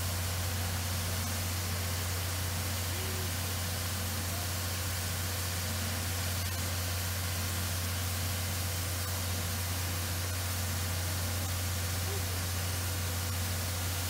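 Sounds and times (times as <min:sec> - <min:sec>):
steam locomotive hiss: 0:00.0 - 0:14.0.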